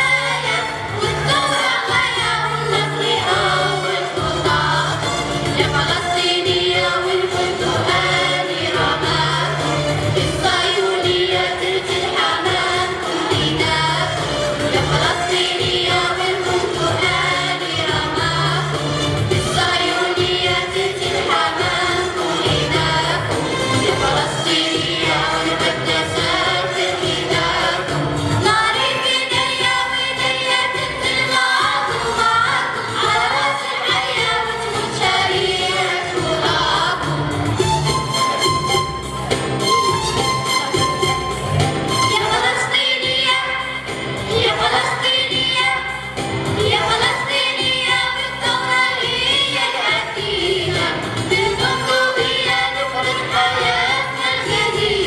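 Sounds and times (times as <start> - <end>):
youth choir singing: 0.0 - 37.7, 41.9 - 55.0.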